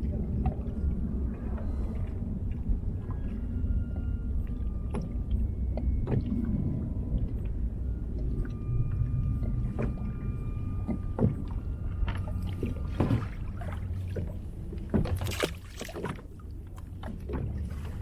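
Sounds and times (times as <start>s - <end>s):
low wind rumble: 0.0s - 18.0s
water sloshing against hull: 0.0s - 18.0s.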